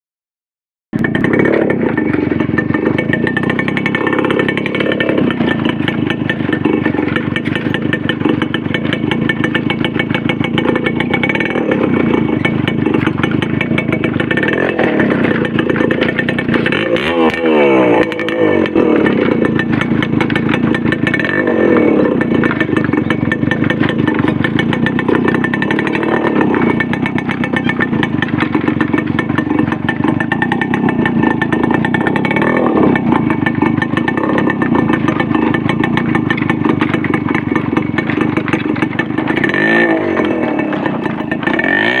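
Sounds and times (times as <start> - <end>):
motorcycle engine running hard: 1.0 - 42.0.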